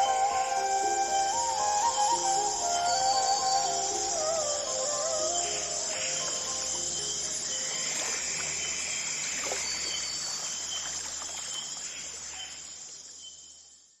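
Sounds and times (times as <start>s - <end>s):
insects chirping chorus: 0.0s - 14.0s.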